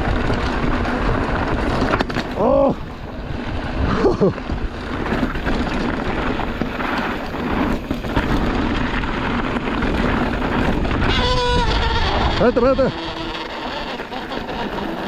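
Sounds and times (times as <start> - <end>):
bike rattling: 0.0 - 15.0
bike tyres rolling over dirt: 0.0 - 15.0
wind buffeting microphone: 0.0 - 15.0.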